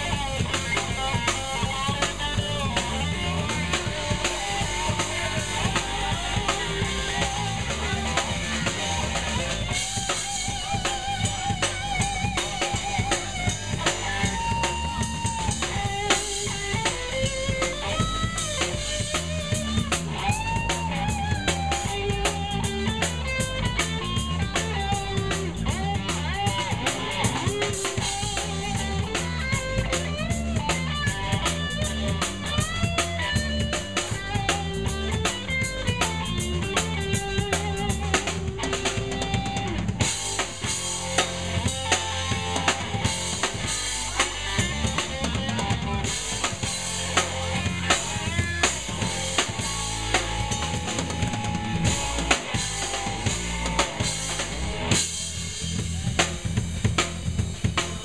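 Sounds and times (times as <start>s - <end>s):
drum kit with cymbals: 0.0s - 58.0s
electric bass: 0.0s - 58.0s
electric guitar lead lines: 0.0s - 58.0s.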